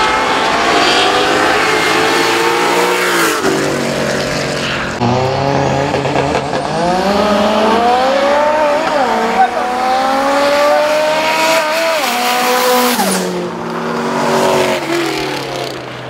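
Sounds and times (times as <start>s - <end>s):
drag racing engines at full throttle: 0.0s - 16.0s.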